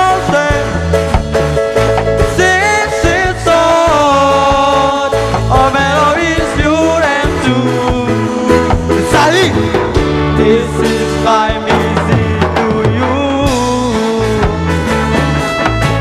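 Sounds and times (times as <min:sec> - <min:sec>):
pulsing bass line: 0:00.0 - 0:16.0
reggae band playing: 0:00.0 - 0:16.0
sliding lead melody: 0:00.0 - 0:16.0.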